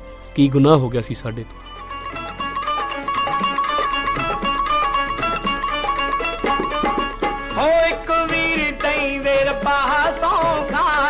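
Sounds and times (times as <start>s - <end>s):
light percussion: 0.0s - 11.0s
plucked string melody: 0.0s - 11.0s.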